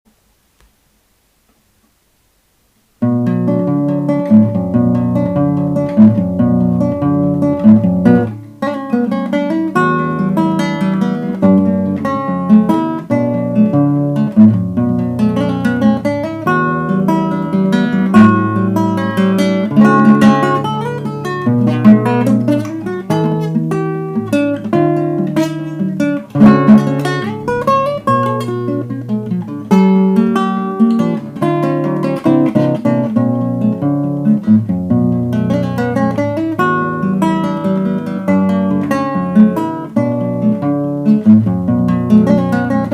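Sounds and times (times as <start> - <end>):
acoustic guitar playing: 3.0 - 42.9.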